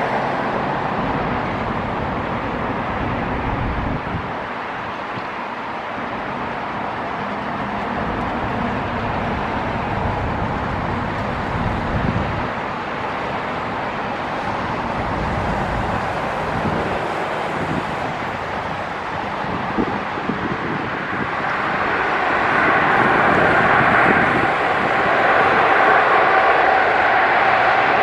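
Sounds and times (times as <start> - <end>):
jet airliner engines rumbling: 0.0 - 28.0.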